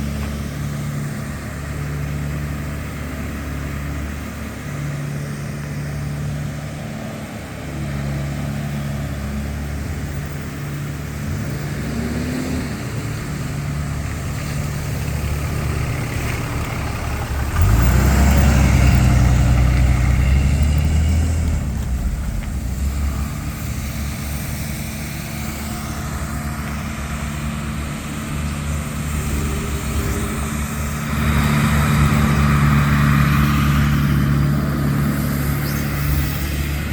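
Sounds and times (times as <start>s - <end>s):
engine revving: 0.0s - 36.9s
vehicle engines running: 0.0s - 36.9s.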